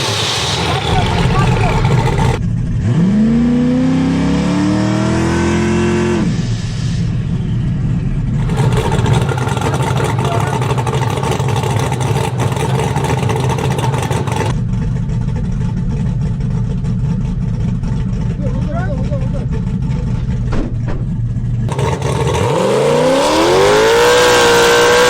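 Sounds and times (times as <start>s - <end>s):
low engine rumble: 0.0s - 4.2s, 5.1s - 23.6s
vehicle engine revving: 0.0s - 25.0s.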